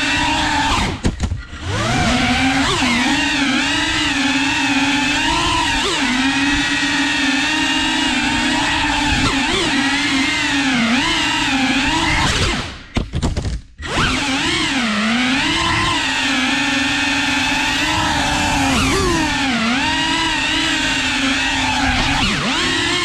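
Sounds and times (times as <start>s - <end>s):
drone motors whining: 0.0s - 13.0s, 13.8s - 23.0s.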